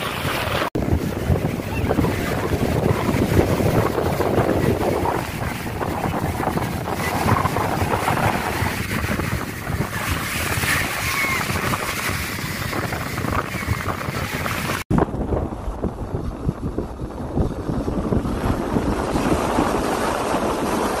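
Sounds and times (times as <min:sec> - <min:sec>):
waves washing in shallows: 0:00.0 - 0:21.0
wind buffeting microphone: 0:00.0 - 0:21.0.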